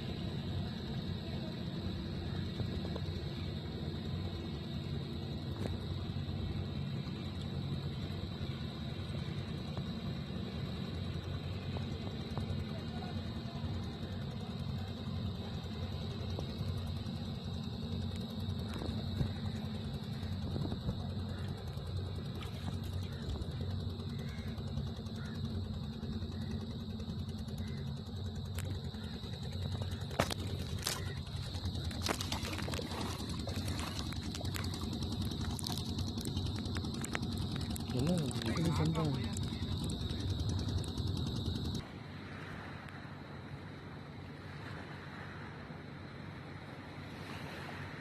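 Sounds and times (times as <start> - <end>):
boat engine droning: 0.0 - 48.0.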